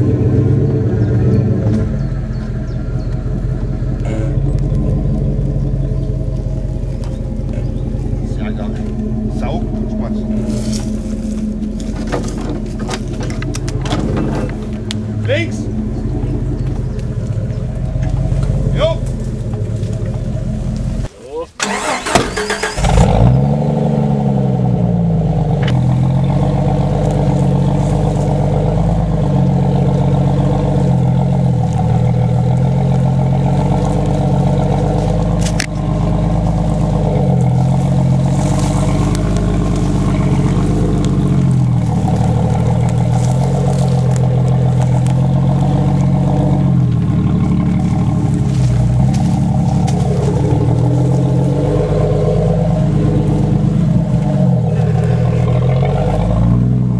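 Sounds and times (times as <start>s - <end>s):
engine running under load: 0.0s - 56.9s.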